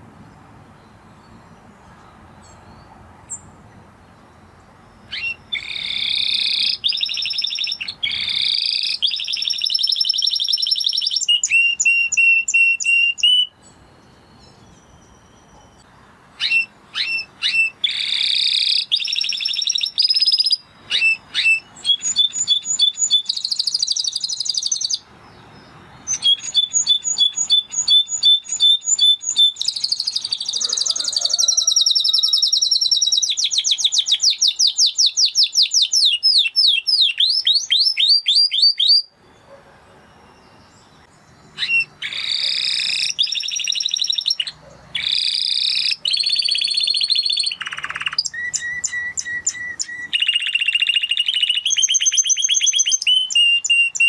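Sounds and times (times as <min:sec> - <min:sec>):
canary singing trills: 0:00.7 - 0:54.0.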